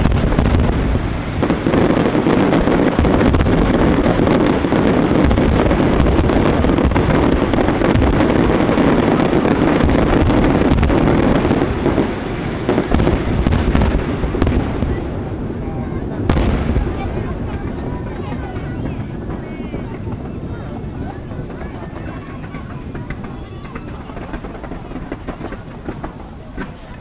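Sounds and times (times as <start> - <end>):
fireworks bursting: 0.0 - 27.0
fireworks crackling: 0.0 - 27.0.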